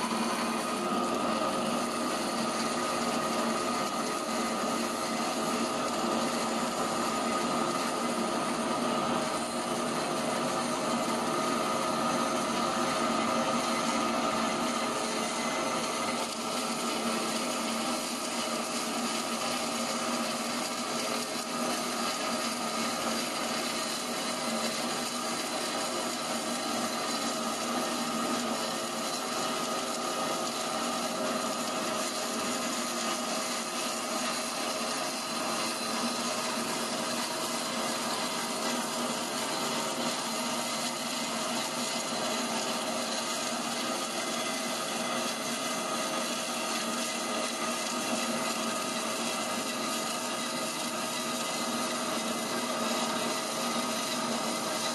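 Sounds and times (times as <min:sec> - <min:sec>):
machine hum: 0:00.0 - 0:49.8.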